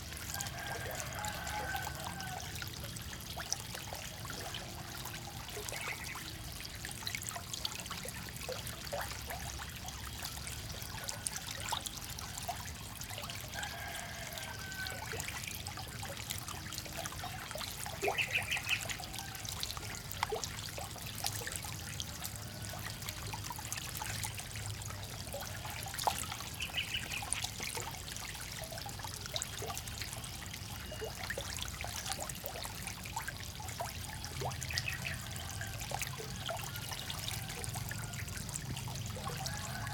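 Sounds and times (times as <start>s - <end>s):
frogs splashing and clicking: 0.0s - 39.9s
water trickling and splashing: 0.0s - 39.9s.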